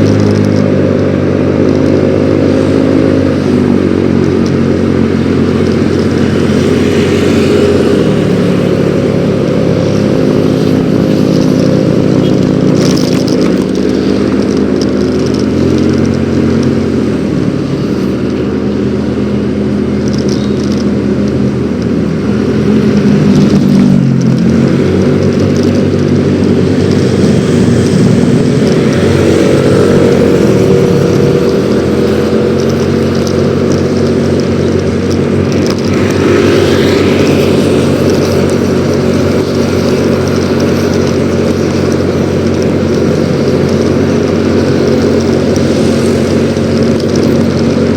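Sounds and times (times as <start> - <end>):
scooter engine running: 0.0 - 47.9.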